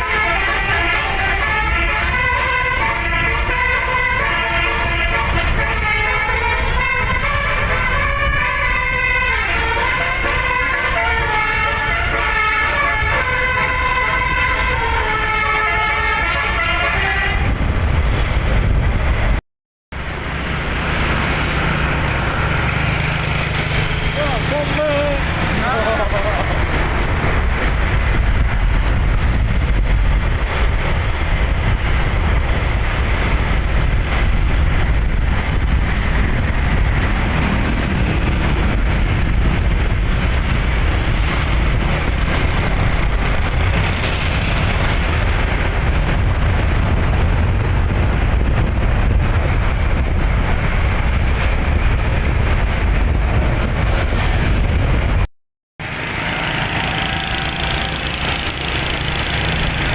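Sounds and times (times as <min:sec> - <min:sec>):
wind buffeting microphone: 0:00.0 - 0:19.4, 0:20.0 - 0:59.9
road noise: 0:00.0 - 0:59.9.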